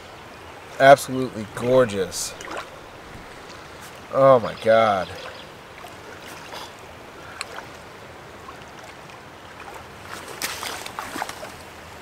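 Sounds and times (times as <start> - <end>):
creek flowing: 0.0 - 12.0.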